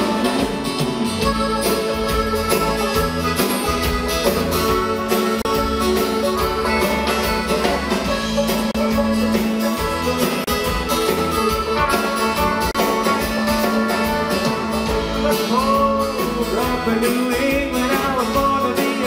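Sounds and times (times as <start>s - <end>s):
fiddle: 0.0s - 19.0s
guitar: 0.0s - 19.0s
plucked rhythm: 0.0s - 19.0s.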